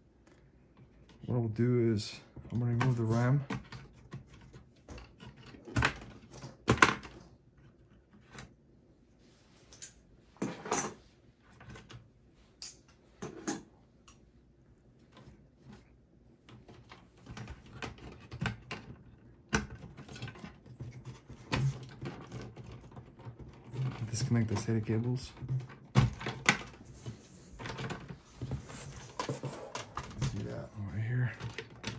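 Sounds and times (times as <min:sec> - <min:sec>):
cables being handled: 0:00.0 - 0:31.9.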